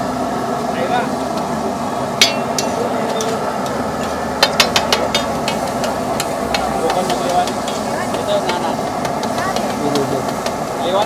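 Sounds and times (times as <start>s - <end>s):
masala frying in oil: 0.0s - 11.0s
steady background noise: 0.0s - 11.0s.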